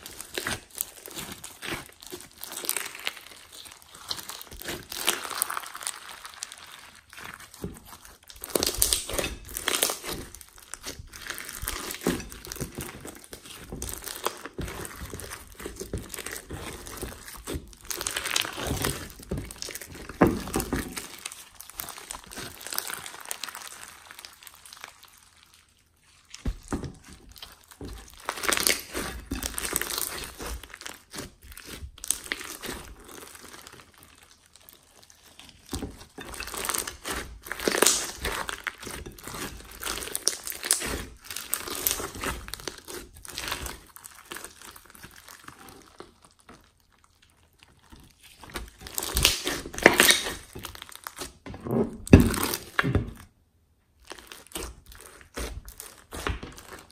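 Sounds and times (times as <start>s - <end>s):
slime with foam beads crunching: 0.0s - 56.9s.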